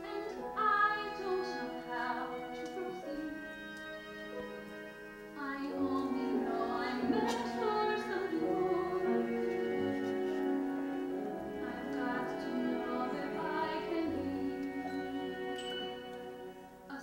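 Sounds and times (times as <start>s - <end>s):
woman singing: 0.0s - 3.8s, 5.4s - 9.9s, 11.4s - 17.0s
instrumental accompaniment: 0.0s - 17.0s.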